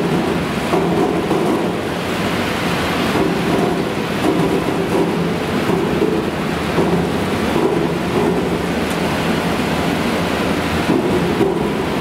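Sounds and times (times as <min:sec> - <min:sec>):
low machine hum: 0:00.0 - 0:12.0
water rushing: 0:00.0 - 0:12.0.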